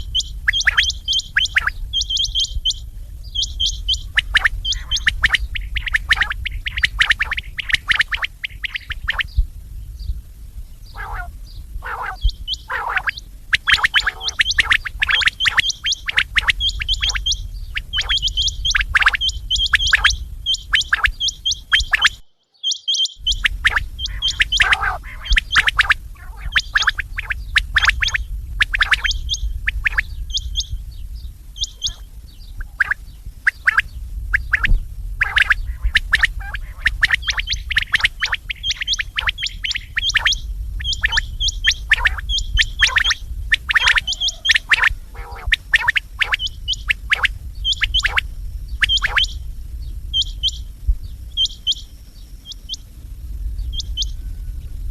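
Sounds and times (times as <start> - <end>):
quail calling: 0.0 - 9.4, 10.9 - 30.8, 31.6 - 49.4, 50.1 - 50.7, 51.3 - 52.8
steady low rumble: 0.0 - 22.4, 23.2 - 54.9.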